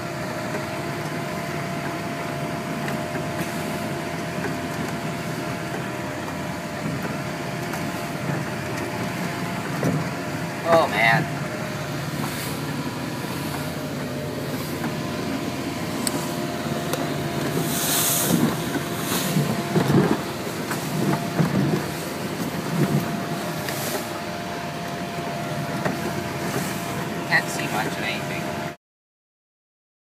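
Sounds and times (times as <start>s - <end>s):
boat engine running: 0.0s - 28.8s
waves splashing hull: 2.9s - 28.6s.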